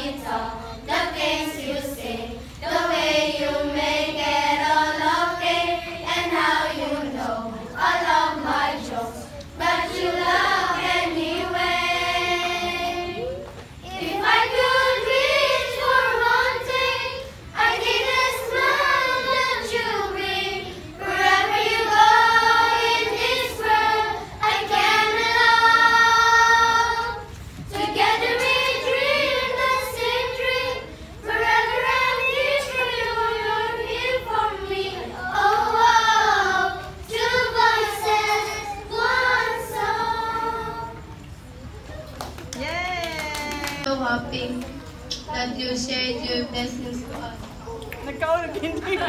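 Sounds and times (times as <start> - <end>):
girls singing in unison: 0.0 - 41.2.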